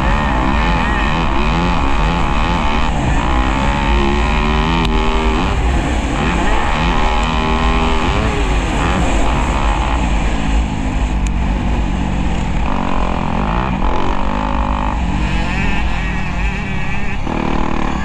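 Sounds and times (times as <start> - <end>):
motocross bike engine revving: 0.0 - 18.0.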